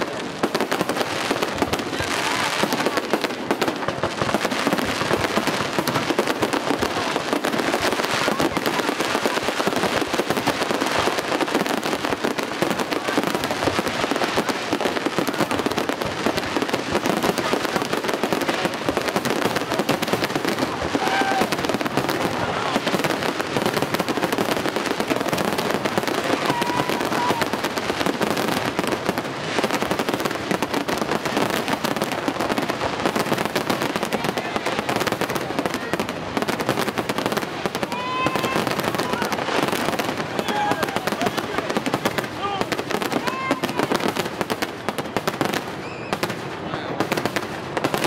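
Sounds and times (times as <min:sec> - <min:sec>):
fireworks bursting and crackling: 0:00.0 - 0:48.0.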